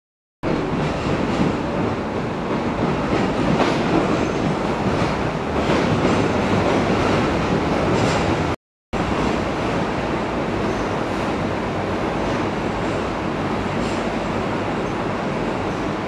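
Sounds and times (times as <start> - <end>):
train rumble: 0.4 - 16.0.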